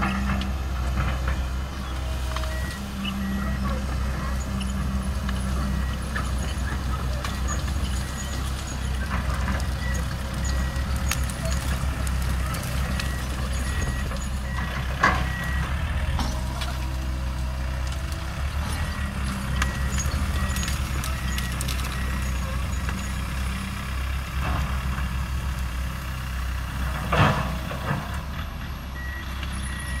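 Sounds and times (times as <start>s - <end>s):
diesel engines droning: 0.0s - 30.0s.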